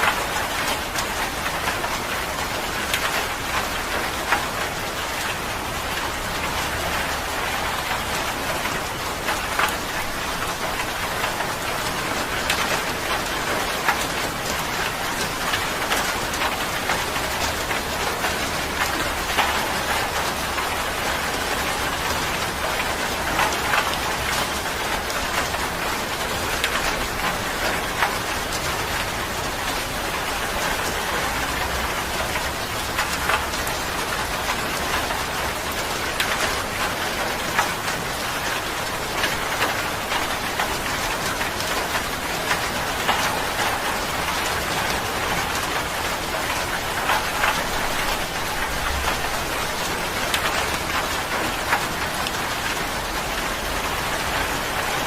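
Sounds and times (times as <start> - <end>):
rain falling: 0.0 - 55.0
raindrops ticking on surface: 0.0 - 55.0.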